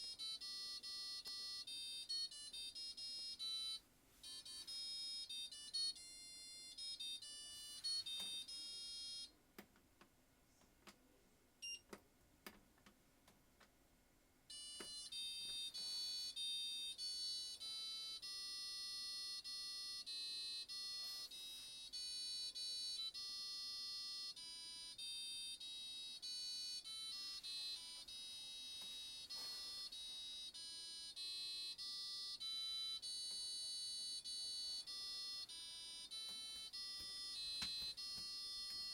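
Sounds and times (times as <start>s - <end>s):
washing machine beeper melody: 0.0s - 9.3s, 14.5s - 38.9s.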